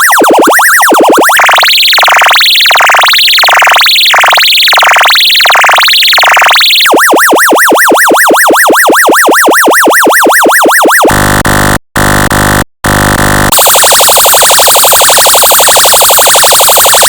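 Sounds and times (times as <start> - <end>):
electronic siren sweeping: 0.0 - 12.2, 12.9 - 17.0.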